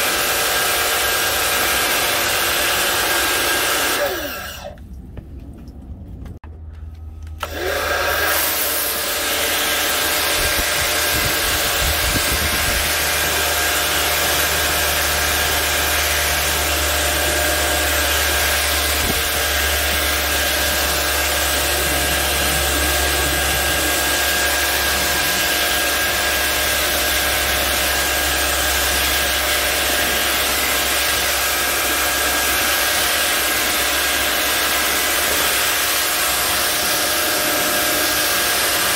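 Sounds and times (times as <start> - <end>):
low motor hum: 4.0 - 38.6.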